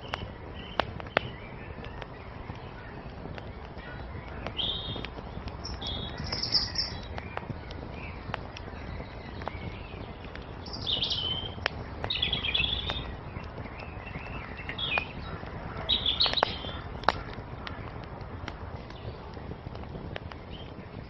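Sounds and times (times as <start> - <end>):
low rush of flame: 0.0 - 21.0
songbirds chirping: 0.0 - 21.0
wood fire crackling and popping: 0.0 - 21.0.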